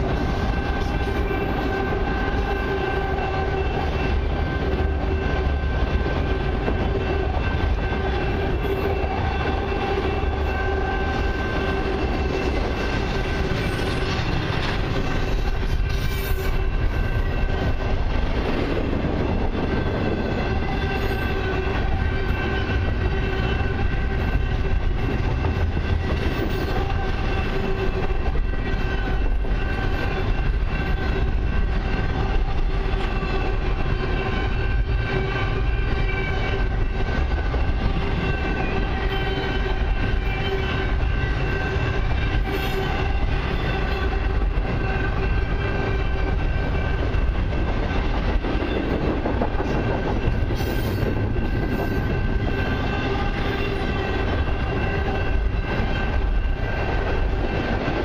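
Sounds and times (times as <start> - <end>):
rail joints clicking: 0.0 - 58.0
train wheels rumbling on rail: 0.0 - 58.0.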